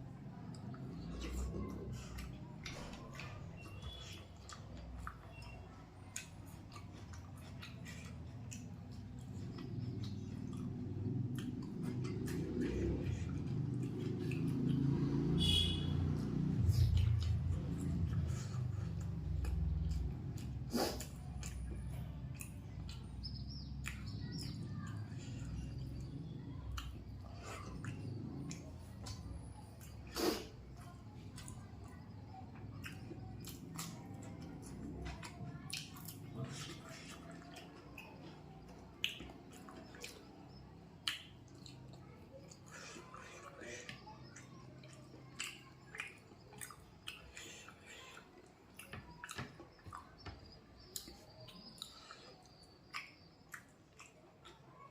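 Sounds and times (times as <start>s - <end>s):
wet chewing mouth sounds: 0.1s - 54.9s.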